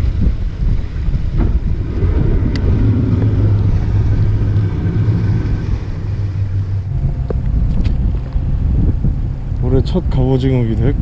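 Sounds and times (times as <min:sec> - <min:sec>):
boat engine humming: 0:00.0 - 0:11.0
wind rumbling on microphone: 0:00.0 - 0:11.0.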